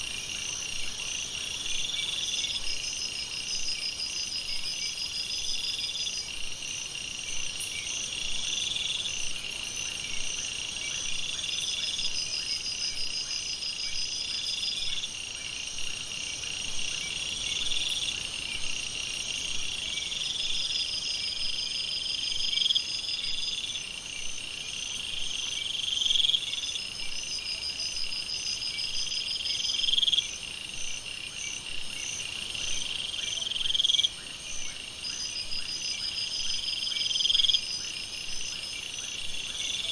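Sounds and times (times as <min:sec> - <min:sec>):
insects and frogs chorus: 0:00.0 - 0:39.9.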